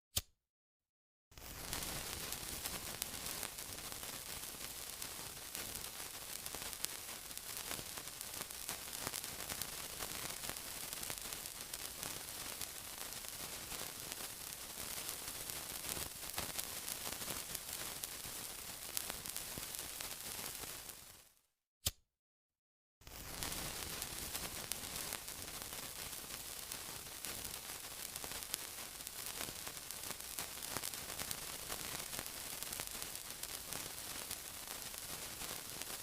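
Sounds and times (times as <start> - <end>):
sizzling with pops and crackles: 1.3 - 22.0, 23.0 - 36.0.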